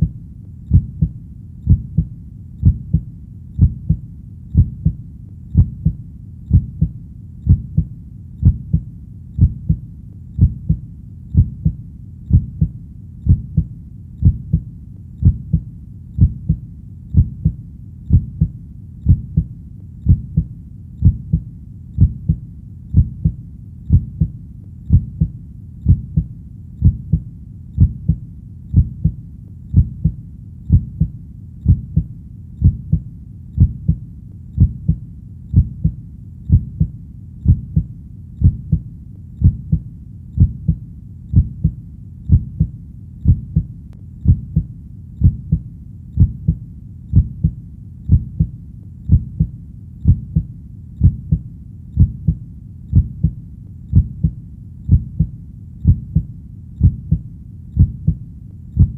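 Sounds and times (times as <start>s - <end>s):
heartbeat thumps: 0.0s - 58.9s.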